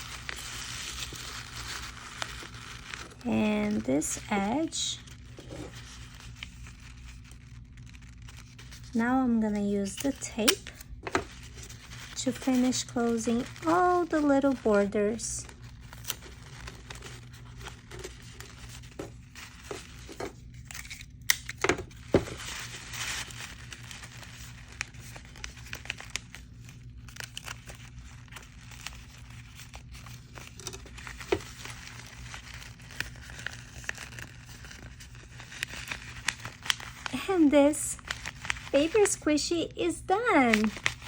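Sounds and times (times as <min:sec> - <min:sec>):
paper crinkling: 0:00.0 - 0:41.0.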